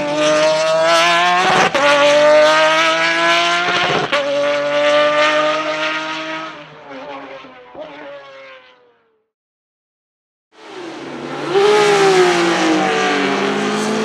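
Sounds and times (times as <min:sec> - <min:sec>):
race car engine at full throttle: 0:00.0 - 0:08.2, 0:10.6 - 0:14.0.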